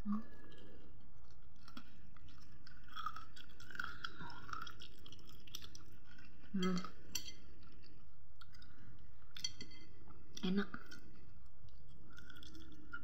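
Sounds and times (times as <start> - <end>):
person chewing: 0.2 - 13.0.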